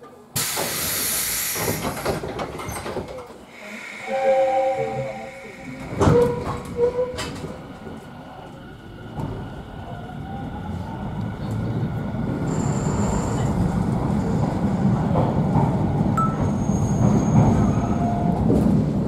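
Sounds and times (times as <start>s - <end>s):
train running noise: 0.4s - 19.0s.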